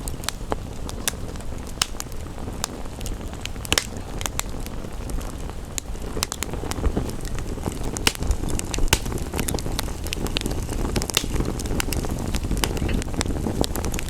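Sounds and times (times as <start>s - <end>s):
soft rain hiss: 0.0s - 14.0s
wood fire crackling and popping: 0.0s - 14.0s.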